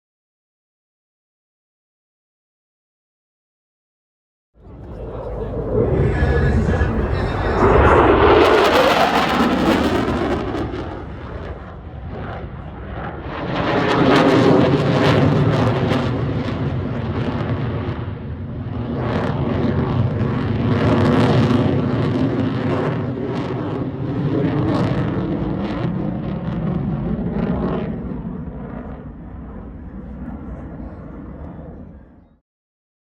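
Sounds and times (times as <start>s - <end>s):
jet engine roar with crackle: 4.6s - 32.3s.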